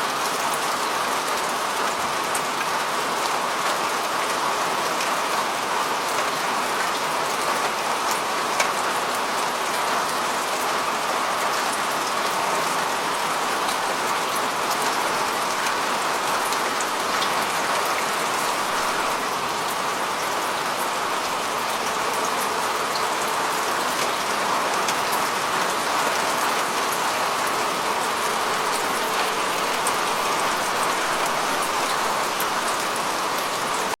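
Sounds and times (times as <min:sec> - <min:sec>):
rain on a rooftop: 0:00.0 - 0:34.0.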